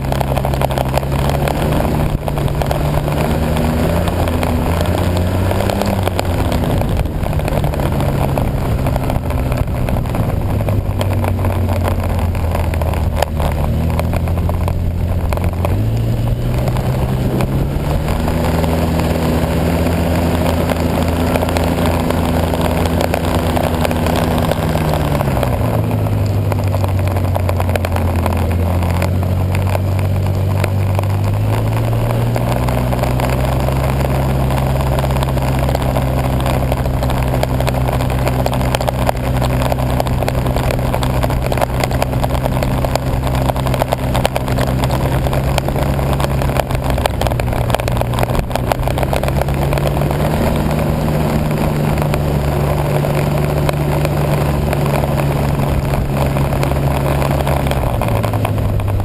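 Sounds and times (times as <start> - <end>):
snowmobile engine running: 0.0 - 59.0
steady rushing noise: 0.0 - 59.0.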